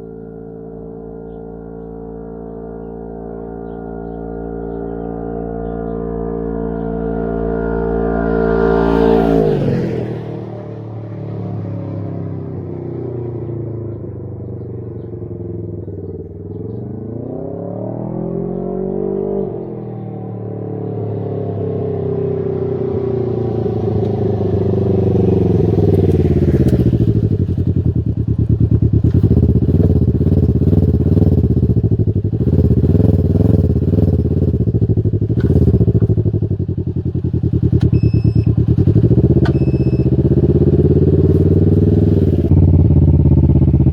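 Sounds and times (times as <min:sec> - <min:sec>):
engine running and revving: 0:00.0 - 0:43.9.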